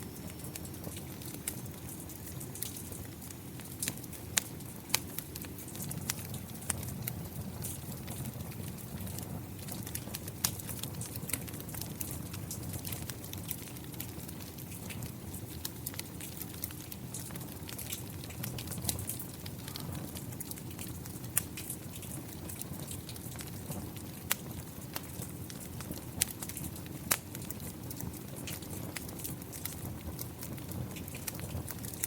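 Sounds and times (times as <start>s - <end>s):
fireplace fire crackling: 0.0s - 32.0s.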